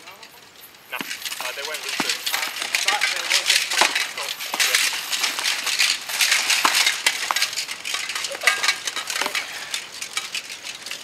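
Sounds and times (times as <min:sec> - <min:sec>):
padded weapons striking shields: 0:00.9 - 0:09.9
metal armour clinking: 0:00.9 - 0:11.0.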